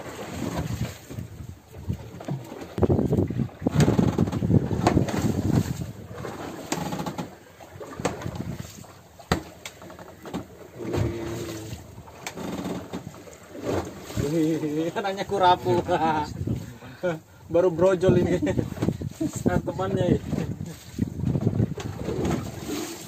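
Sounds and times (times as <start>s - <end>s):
wind rumbling on microphone: 0.0s - 9.4s, 10.7s - 23.0s
knocks and clicks on boat: 0.0s - 14.3s, 18.1s - 23.0s.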